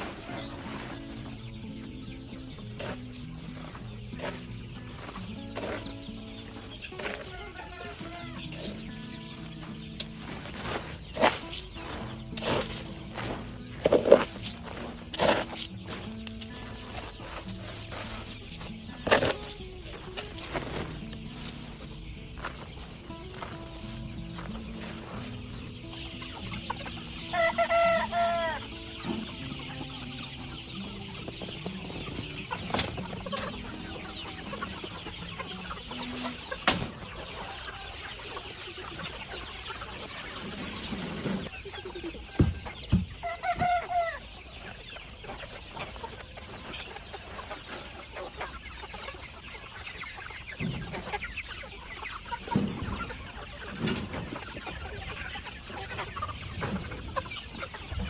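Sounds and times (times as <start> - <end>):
chickens clucking: 0.0 - 58.0
loud wavering chicken calls: 0.0 - 58.0.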